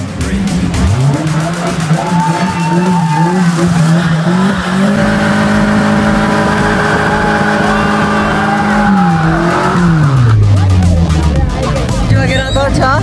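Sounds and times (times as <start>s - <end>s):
car engine revving hard: 0.0s - 13.0s
tyres squealing: 0.3s - 13.0s.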